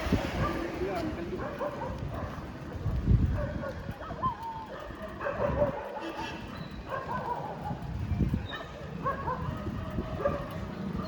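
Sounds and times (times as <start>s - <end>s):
dogs barking and yelping: 1.4s - 11.0s.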